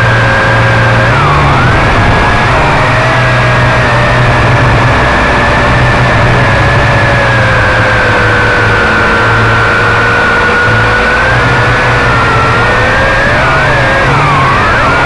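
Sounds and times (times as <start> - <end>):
drone propellers whining: 0.0 - 15.0
low rumble: 0.0 - 15.0.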